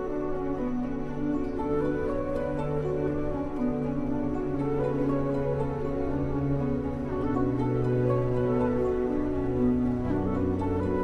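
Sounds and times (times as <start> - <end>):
slow background music: 0.0 - 11.0.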